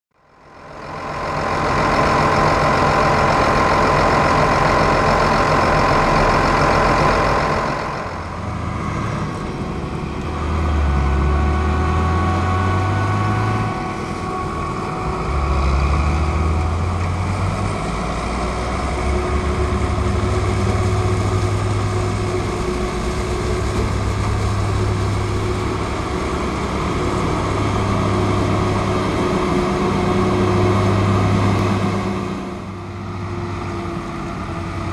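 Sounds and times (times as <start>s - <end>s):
diesel farm machinery running: 0.1s - 34.9s
high machine whine: 0.2s - 34.9s.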